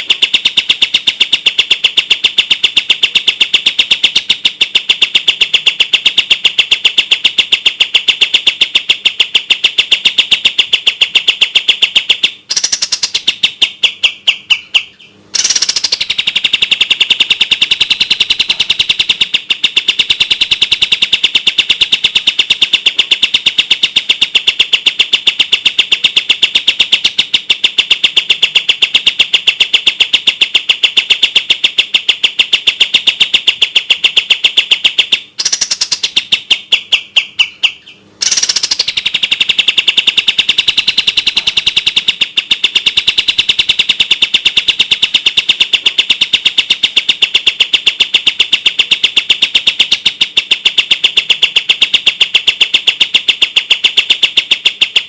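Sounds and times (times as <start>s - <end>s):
bird trilling: 0.0s - 51.6s.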